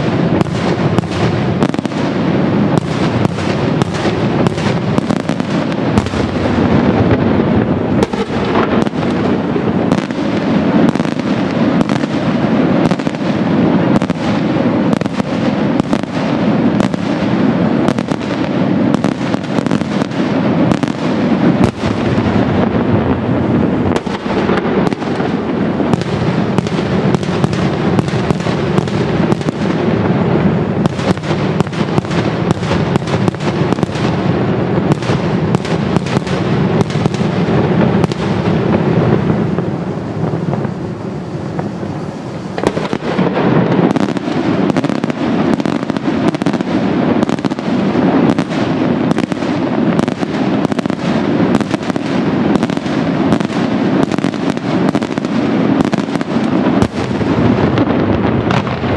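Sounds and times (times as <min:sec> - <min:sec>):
firework bangs: 0:00.0 - 0:58.9.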